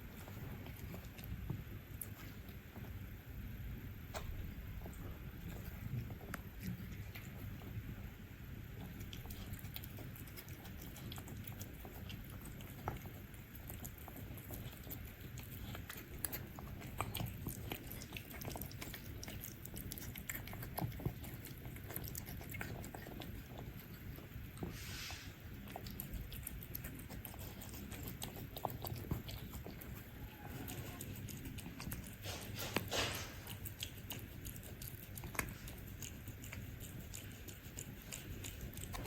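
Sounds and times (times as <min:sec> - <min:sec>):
cats chewing: 0:00.0 - 0:39.0.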